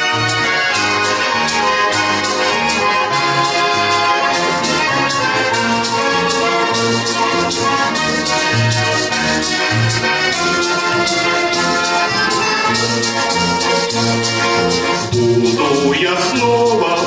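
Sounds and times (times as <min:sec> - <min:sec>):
band music: 0:00.0 - 0:17.0.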